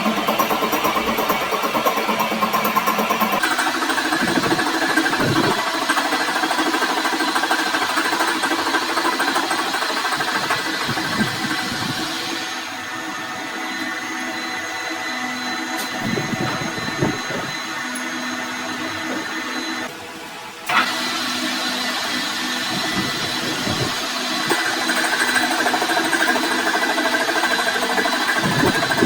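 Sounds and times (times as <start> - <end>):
machine motor whining: 0.0 - 29.0.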